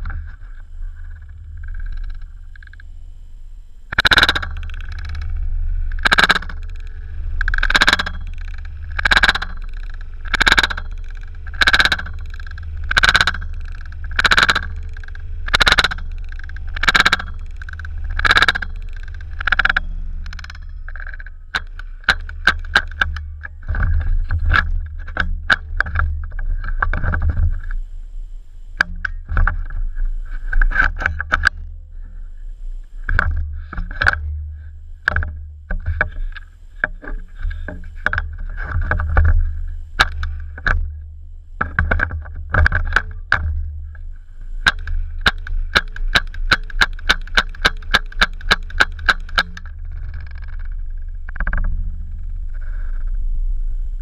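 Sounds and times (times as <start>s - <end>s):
low rumble: 0.0s - 54.0s
sharp cracks and clicks: 1.0s - 2.9s, 3.9s - 27.8s, 28.8s - 31.7s, 33.0s - 52.2s.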